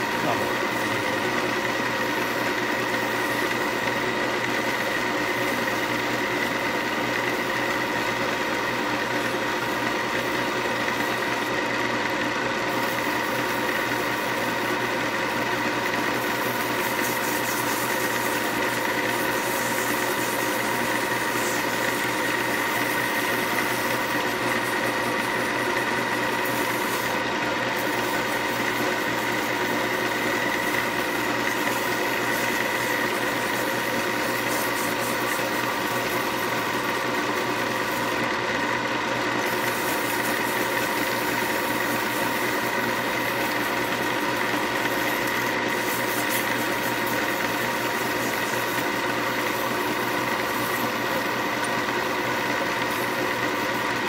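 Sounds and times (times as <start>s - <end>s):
sandpaper on spinning wood: 0.0s - 54.0s
wood lathe humming and whining: 0.0s - 54.0s.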